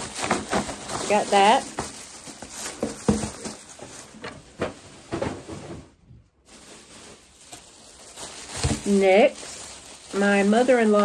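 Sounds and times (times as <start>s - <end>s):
packaged goods knocking: 0.0s - 11.0s
plastic bag rustling: 0.0s - 11.0s.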